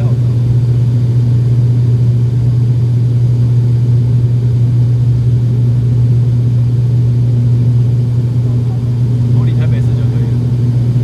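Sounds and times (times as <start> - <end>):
airliner engines droning in cabin: 0.0 - 11.0.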